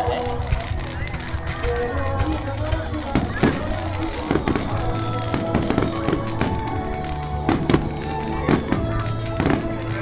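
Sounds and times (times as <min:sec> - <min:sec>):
fireworks bursting: 0:00.0 - 0:10.0
music playing: 0:00.0 - 0:10.0.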